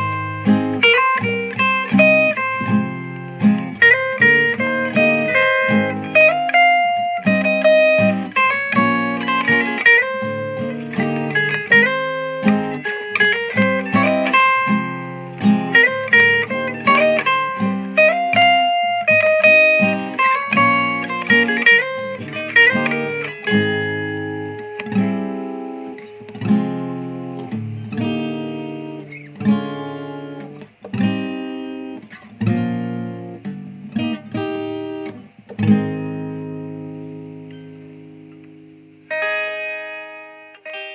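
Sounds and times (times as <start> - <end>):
fingerstyle guitar: 0.0 - 40.9.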